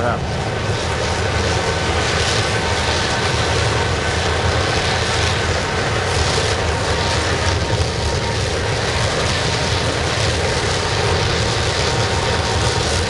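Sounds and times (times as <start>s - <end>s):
oil burner flame roaring: 0.0s - 13.0s.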